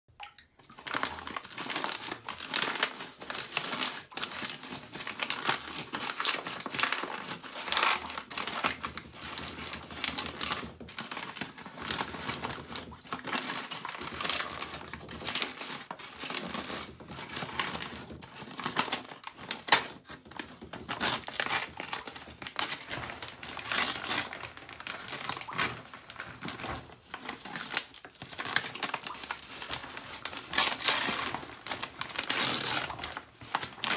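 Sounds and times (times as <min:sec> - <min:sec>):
paper bag crinkling: 0:00.8 - 0:33.9.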